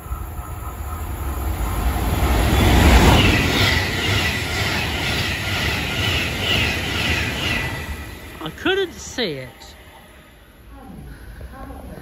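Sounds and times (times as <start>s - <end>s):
electric train passing at speed: 0.0s - 12.0s.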